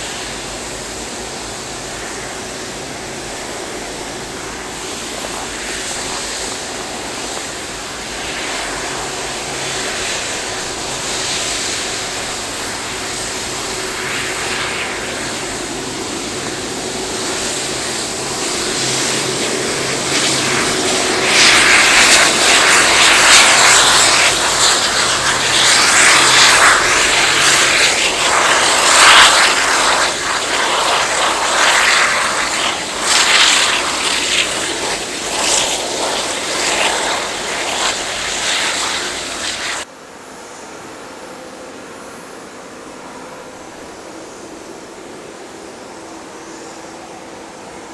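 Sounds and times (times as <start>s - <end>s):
jet engines taxiing: 0.0s - 39.9s.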